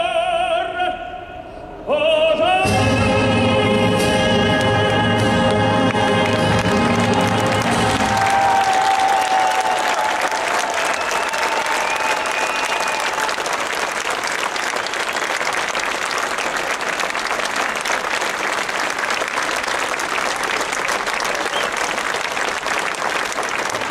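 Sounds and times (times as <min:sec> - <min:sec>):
crowd applauding: 0:04.6 - 0:23.9.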